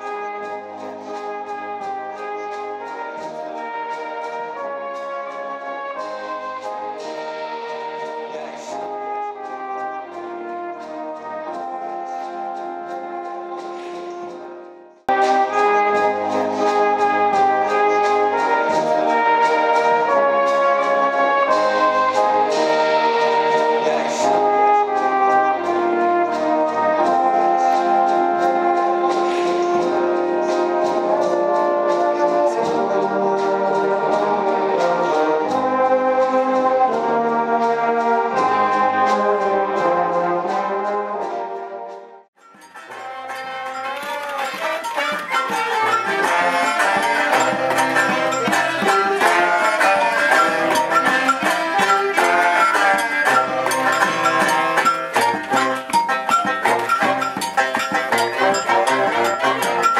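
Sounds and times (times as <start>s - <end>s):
brass band playing: 0.0s - 59.9s.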